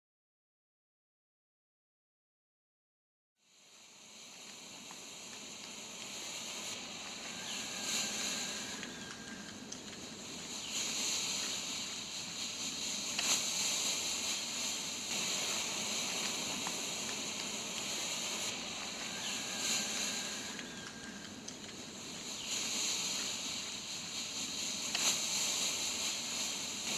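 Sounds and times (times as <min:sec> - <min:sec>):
smoke grenades hissing: 0:03.8 - 0:26.9.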